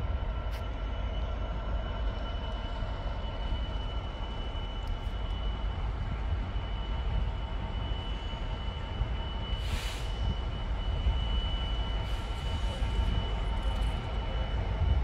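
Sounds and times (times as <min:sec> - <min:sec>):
diesel train engine rumble: 0:00.0 - 0:15.0.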